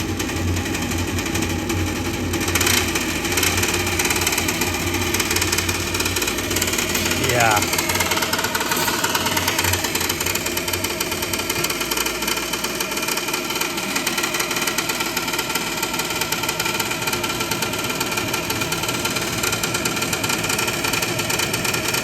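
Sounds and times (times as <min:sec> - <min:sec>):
furnace motor clattering: 0:00.0 - 0:22.0.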